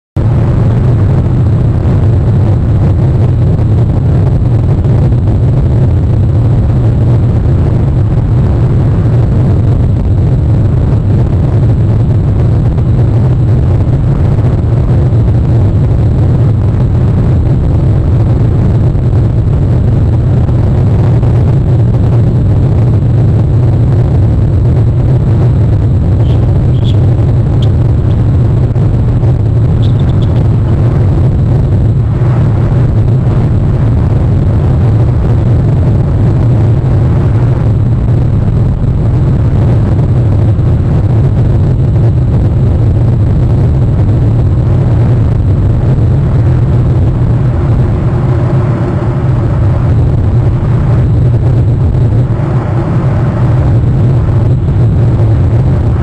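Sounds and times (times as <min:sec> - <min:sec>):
loud low rumbling: 0:00.0 - 0:56.0.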